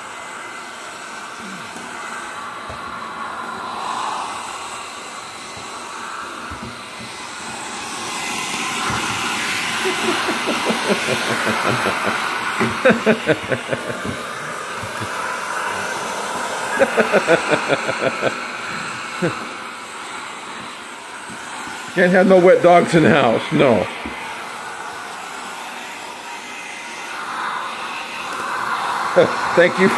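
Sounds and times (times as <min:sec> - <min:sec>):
blow dryer rushing air: 0:00.0 - 0:29.9.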